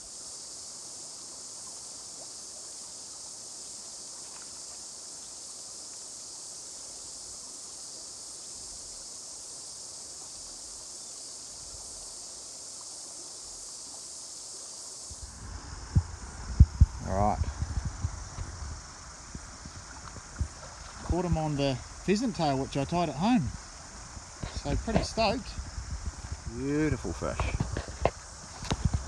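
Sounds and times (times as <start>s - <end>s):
cicada chorus buzzing: 0.0s - 29.0s.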